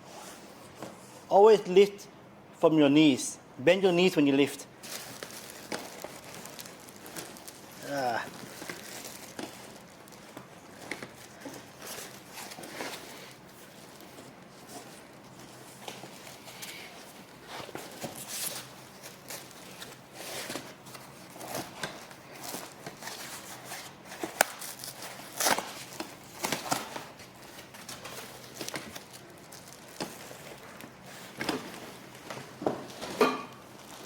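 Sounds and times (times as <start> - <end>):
packaging rustling and scraping: 4.8 - 34.0.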